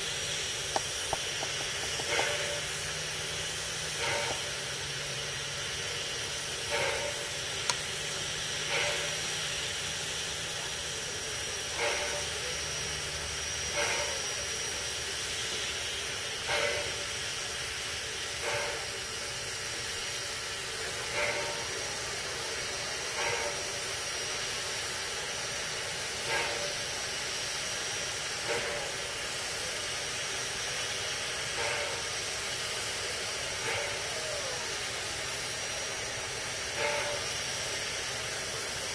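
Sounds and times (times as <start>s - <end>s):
steam hissing: 0.0s - 38.9s
steam locomotive puffs: 0.0s - 38.9s.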